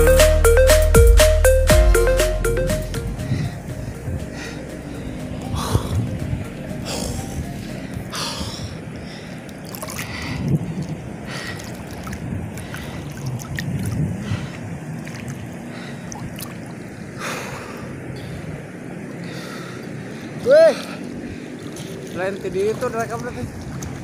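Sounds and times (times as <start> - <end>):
water sloshing and lapping: 3.3 - 24.0
water splashes: 4.3 - 24.0.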